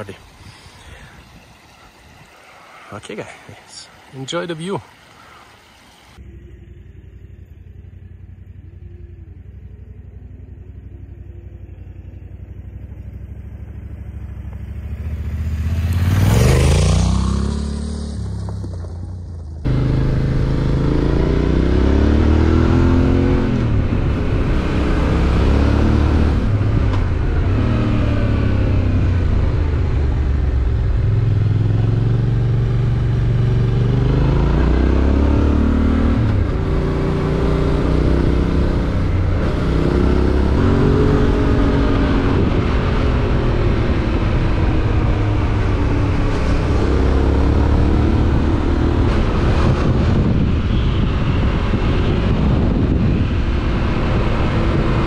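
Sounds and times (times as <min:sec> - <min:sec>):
motorcycle engine accelerating: 0:06.2 - 0:55.0.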